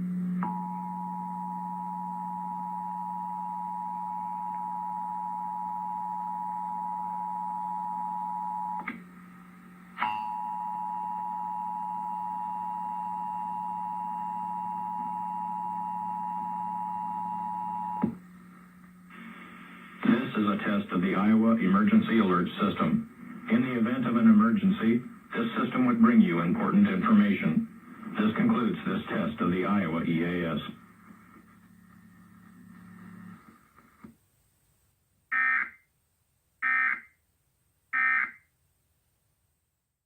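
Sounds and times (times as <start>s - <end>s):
low steady hum: 0.0s - 35.2s.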